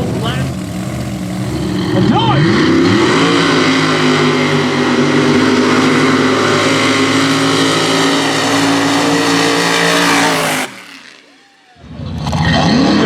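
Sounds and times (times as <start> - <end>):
truck engine at high revs: 0.0 - 13.0.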